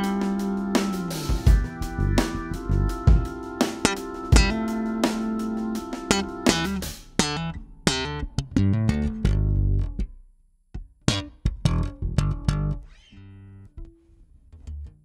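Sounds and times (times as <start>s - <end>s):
electric bass plucked notes: 0.0s - 15.0s.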